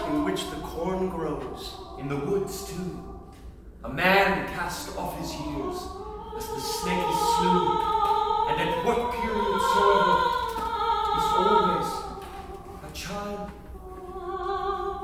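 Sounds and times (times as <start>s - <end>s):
operatic singing: 0.0s - 15.0s
soft classical accompaniment: 0.0s - 15.0s.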